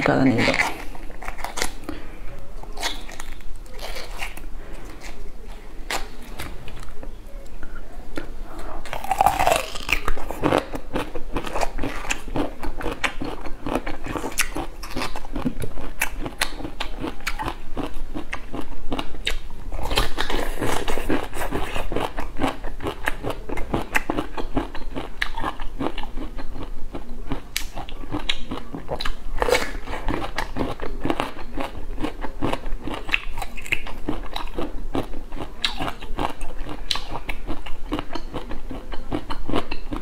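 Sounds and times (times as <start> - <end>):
crunchy chewing of bamboo shoot: 0.4 - 2.0, 2.6 - 5.2, 8.2 - 40.0.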